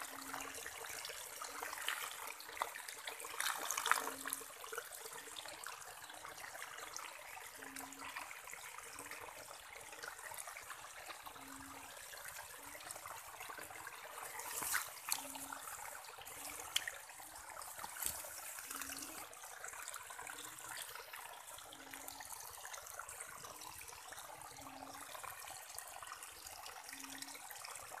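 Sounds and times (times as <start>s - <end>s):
rainwater trickling through grass: 0.0s - 28.0s
water splashes: 0.0s - 28.0s.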